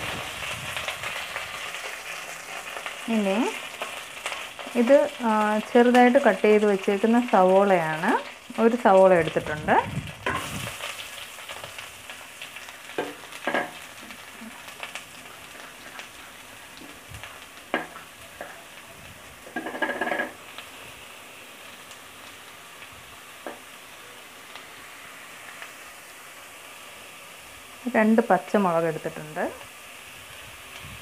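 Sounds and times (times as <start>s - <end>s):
onion sizzling in oil: 0.0s - 31.0s.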